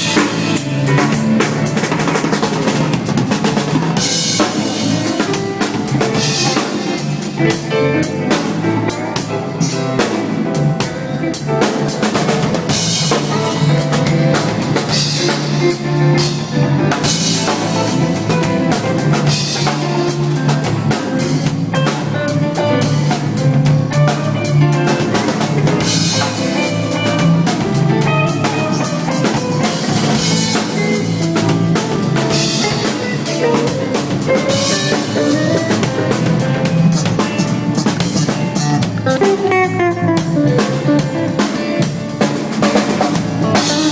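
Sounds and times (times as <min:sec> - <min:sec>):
drum kit grooves: 0:00.0 - 0:43.9
steady bass line: 0:00.0 - 0:43.9.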